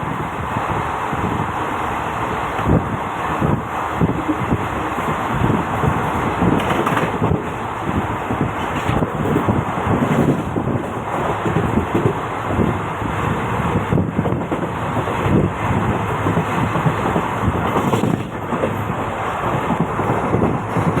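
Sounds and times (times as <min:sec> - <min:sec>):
train wheels rattling on rail: 0:00.0 - 0:21.0
wind buffeting microphone: 0:00.0 - 0:21.0.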